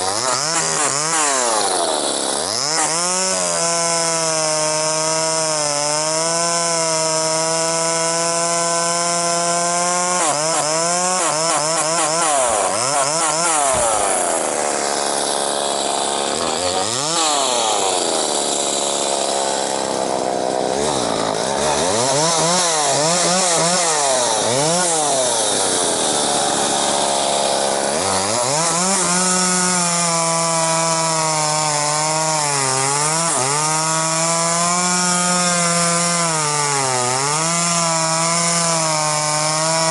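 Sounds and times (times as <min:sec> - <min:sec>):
chainsaw revving and cutting wood: 0:00.0 - 0:39.9.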